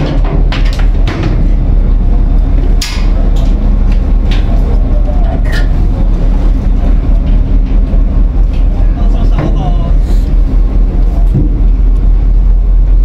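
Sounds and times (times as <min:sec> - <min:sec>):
ferry engine rumbling: 0:00.0 - 0:13.0.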